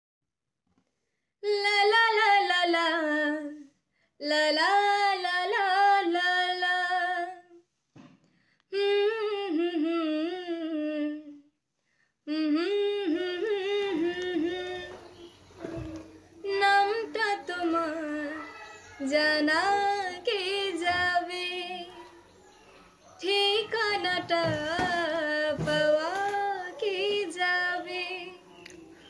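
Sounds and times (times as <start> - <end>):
woman singing: 1.4 - 7.6, 8.7 - 11.5, 12.3 - 22.0, 23.2 - 28.7.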